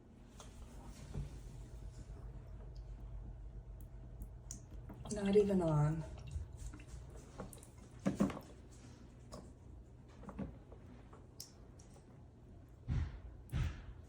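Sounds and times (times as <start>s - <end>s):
water dripping and squishing: 0.4s - 12.2s.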